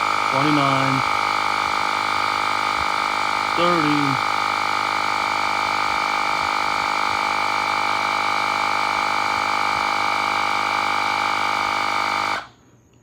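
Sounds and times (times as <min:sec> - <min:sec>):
tire inflator compressor droning: 0:00.0 - 0:12.5.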